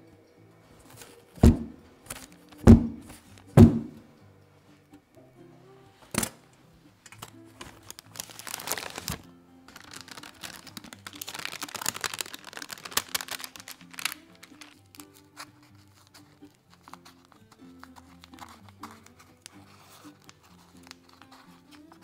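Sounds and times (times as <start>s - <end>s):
soft background music: 0.0s - 22.0s
parchment paper crinkling: 0.8s - 3.8s, 7.1s - 22.0s.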